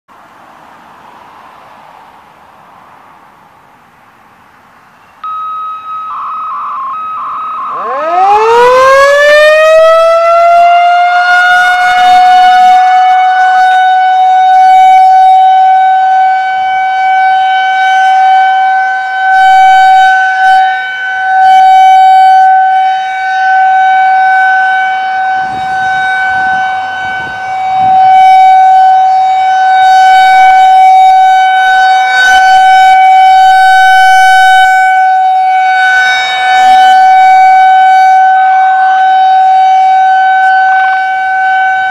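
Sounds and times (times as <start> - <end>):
rotating warning siren: 5.1 - 41.9.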